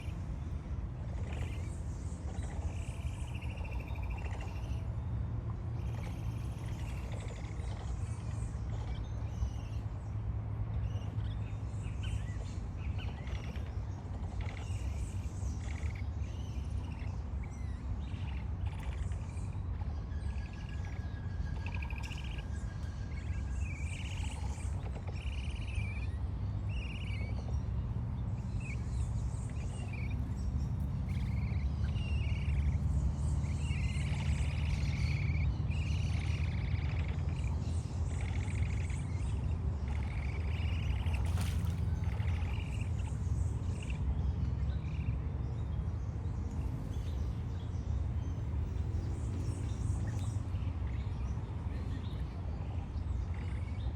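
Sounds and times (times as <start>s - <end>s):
steady low rumble: 0.0s - 53.9s.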